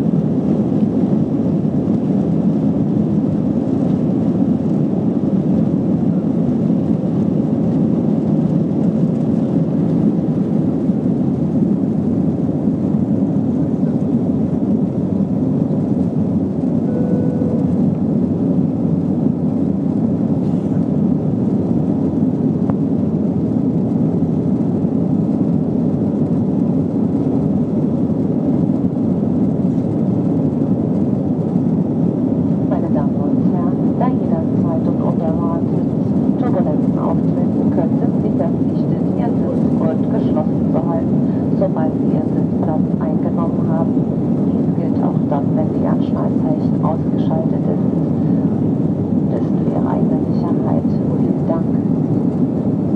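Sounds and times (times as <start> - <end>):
airplane cabin engine roar: 0.0 - 52.9.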